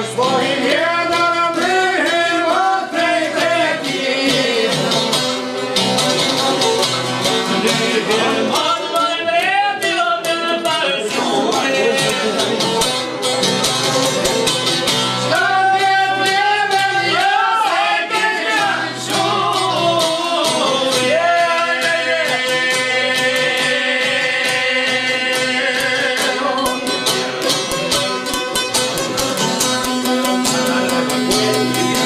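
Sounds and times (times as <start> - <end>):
person singing: 0.0 - 5.4, 7.4 - 12.9, 15.2 - 29.2, 29.9 - 32.0
plucked string instrument: 0.0 - 32.0.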